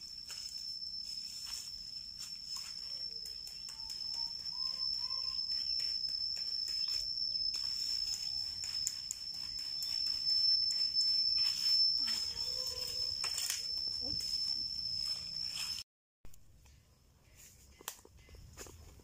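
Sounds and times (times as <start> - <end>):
faint chirps: 0.0 - 15.8
leaves and twigs rustling: 0.0 - 15.8
steady high-pitched whine: 0.0 - 15.8.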